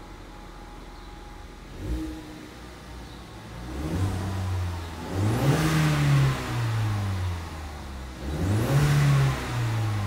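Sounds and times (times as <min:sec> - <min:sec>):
car engine revving: 0:01.5 - 0:10.0.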